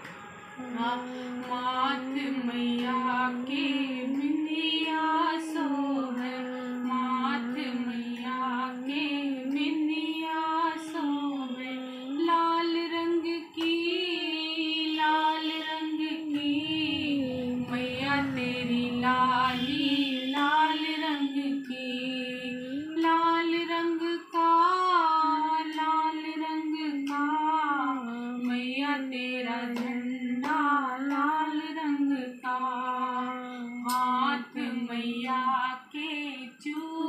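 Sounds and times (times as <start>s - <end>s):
woman singing devotional song: 0.0s - 37.0s.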